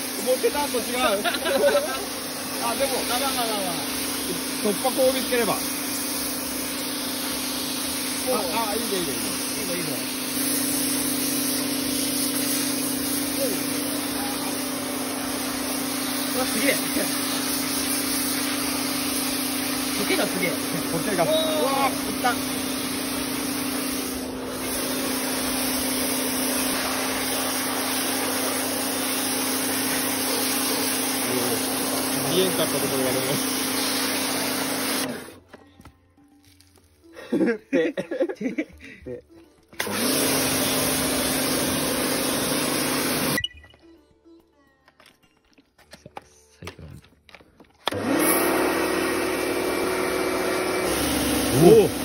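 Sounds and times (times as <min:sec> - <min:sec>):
high-pressure water jet hiss: 0:00.0 - 0:35.4, 0:39.8 - 0:43.4, 0:47.9 - 0:52.0
pressure washer motor hum: 0:00.0 - 0:35.5, 0:39.8 - 0:43.4, 0:47.8 - 0:52.0.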